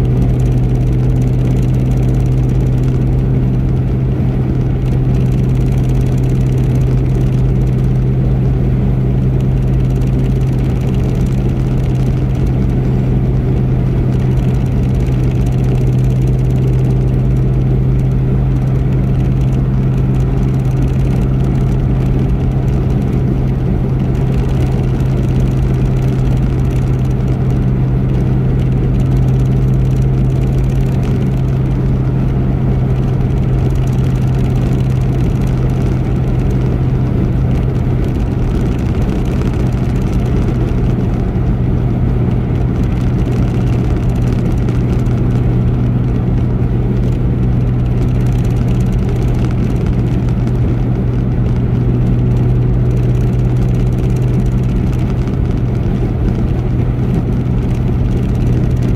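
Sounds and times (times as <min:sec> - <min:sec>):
car driving at highway speed: 0:00.0 - 0:58.9.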